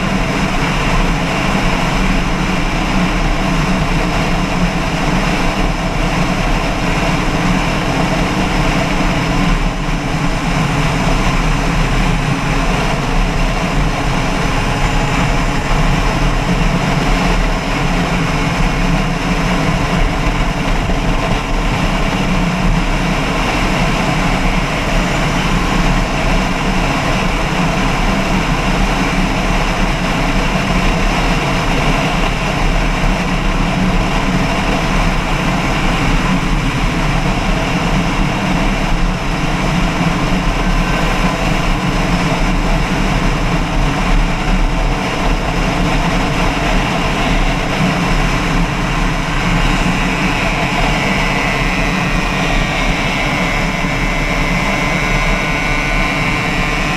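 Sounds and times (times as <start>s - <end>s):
engine running loudly: 0.0s - 56.9s.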